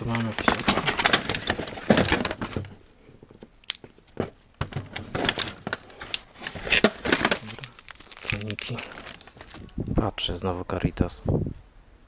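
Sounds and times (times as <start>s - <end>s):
plastic tray crinkling: 0.0s - 9.7s.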